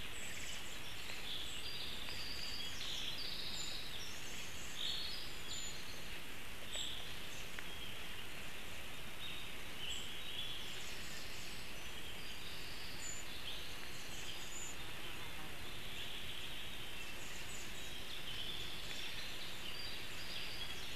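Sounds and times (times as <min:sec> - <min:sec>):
small songbirds singing: 0:00.0 - 0:20.9
steady hiss: 0:00.0 - 0:20.9.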